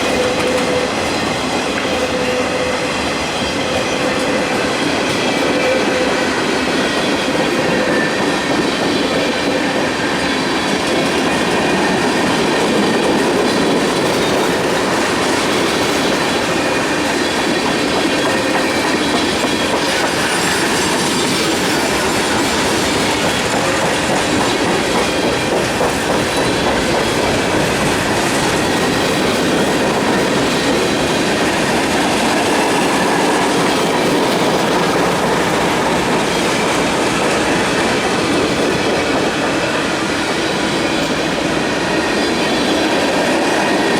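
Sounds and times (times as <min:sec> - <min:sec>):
train wheels clattering over rail joints: 0:03.4 - 0:43.9.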